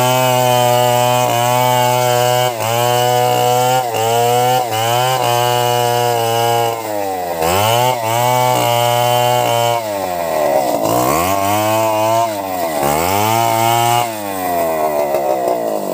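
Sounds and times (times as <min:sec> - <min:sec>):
chainsaw cutting log: 0:00.0 - 0:15.9.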